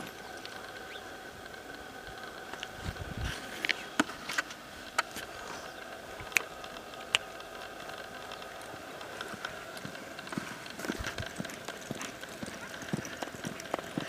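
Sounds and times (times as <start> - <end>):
faint steady hum: 0.0 - 14.0
hooves and tack clicking: 0.0 - 14.0.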